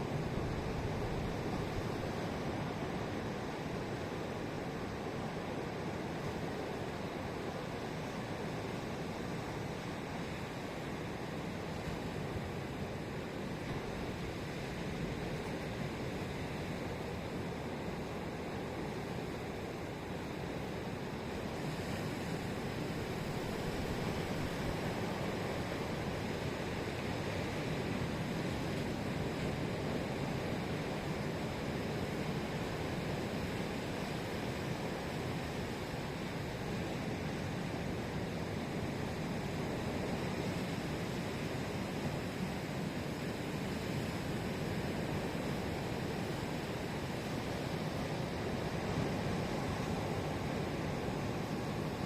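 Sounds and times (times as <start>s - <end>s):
sea surf rushing: 0.0s - 52.0s.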